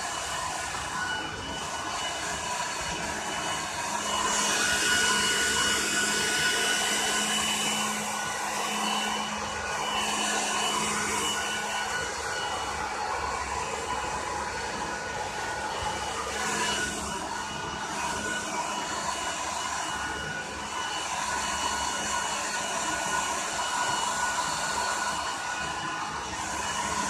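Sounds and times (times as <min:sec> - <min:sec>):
hair dryer blowing: 0:00.0 - 0:27.0.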